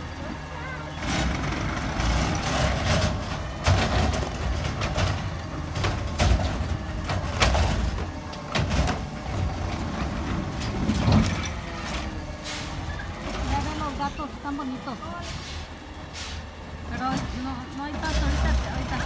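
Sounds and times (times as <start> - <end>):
cart and arm clanking: 0.0 - 19.0
garbage truck engine rumble: 0.0 - 19.0.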